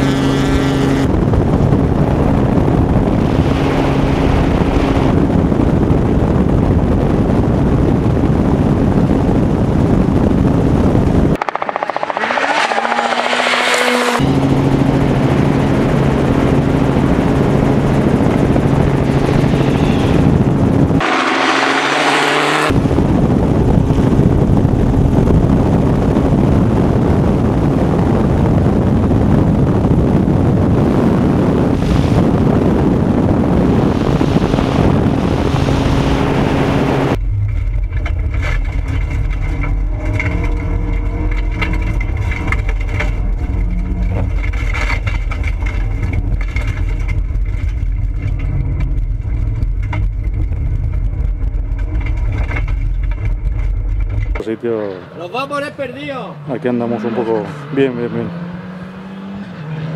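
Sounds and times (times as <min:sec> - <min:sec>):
rally car engines running hard: 0:00.0 - 0:59.9.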